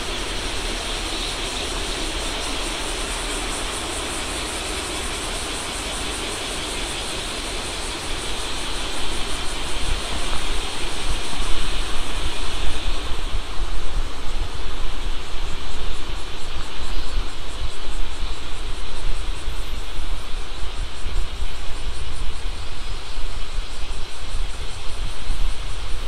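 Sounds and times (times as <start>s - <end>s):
insects calling: 0.0s - 26.0s
wind buffeting microphone: 0.0s - 26.0s.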